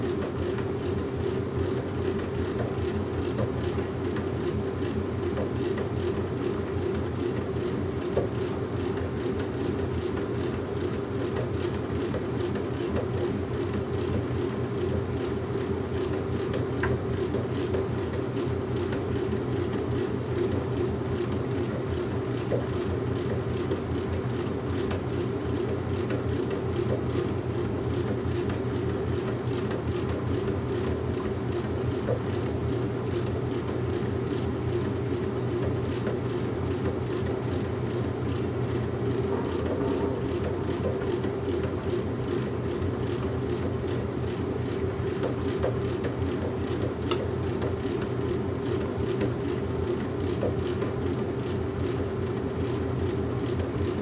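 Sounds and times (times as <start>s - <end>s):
washing machine hum and rumble: 0.0s - 54.0s.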